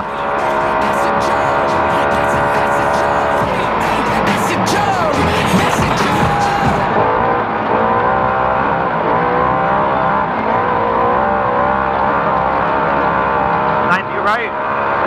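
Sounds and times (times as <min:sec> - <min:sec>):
tyre and chassis rumble: 0:00.0 - 0:14.0
race engine revving: 0:00.0 - 0:15.0.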